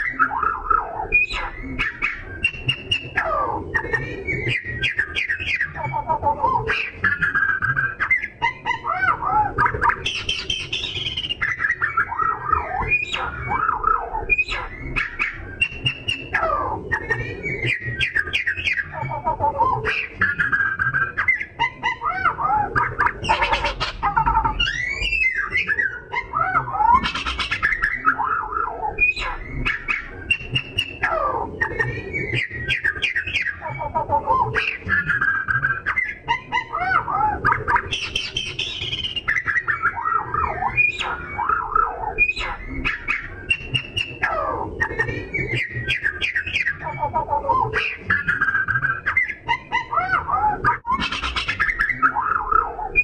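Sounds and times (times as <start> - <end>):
bird singing varied song: 0.0 - 53.0.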